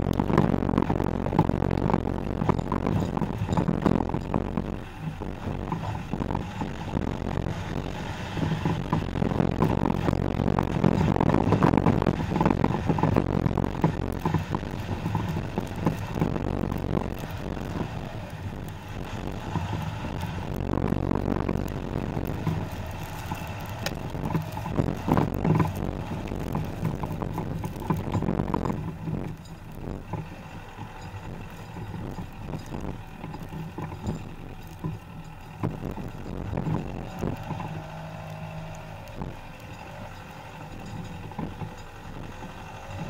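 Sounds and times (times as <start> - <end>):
suspension thumps over bumps: 0.0 - 43.0
tyre and road rumble: 0.0 - 43.0.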